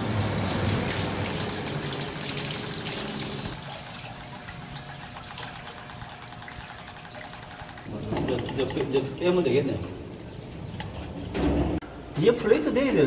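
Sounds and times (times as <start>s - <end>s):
water trickling and pouring: 0.0s - 11.8s.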